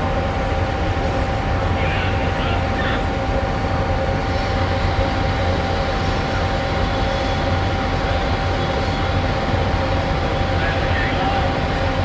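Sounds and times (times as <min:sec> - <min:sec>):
train high whine: 0:00.0 - 0:12.0
train rumbling: 0:00.0 - 0:12.0.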